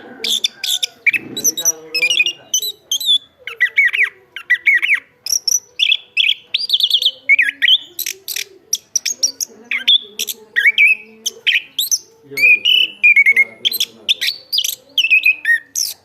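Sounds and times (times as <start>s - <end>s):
thrush singing: 0.0s - 16.0s.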